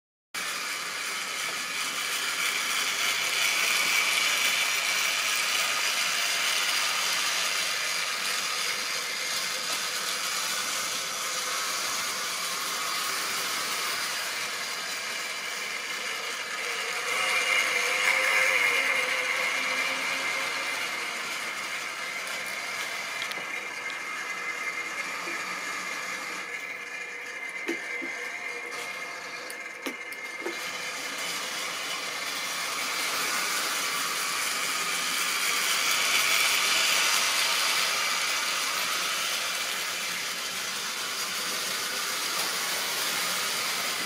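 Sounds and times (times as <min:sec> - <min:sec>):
small electric motor whirring: 0:00.4 - 0:44.0.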